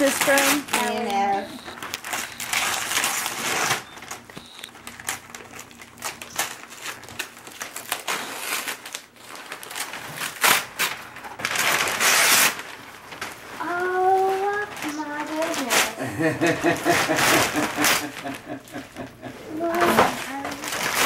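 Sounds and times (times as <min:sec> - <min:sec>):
wrapping paper rustling: 0:00.0 - 0:21.0.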